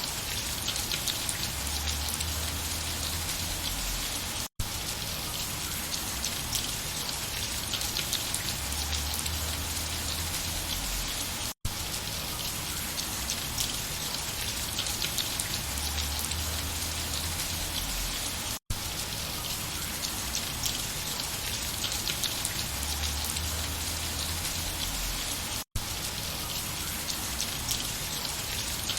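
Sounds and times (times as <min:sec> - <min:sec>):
rain patter: 0:00.0 - 0:28.9.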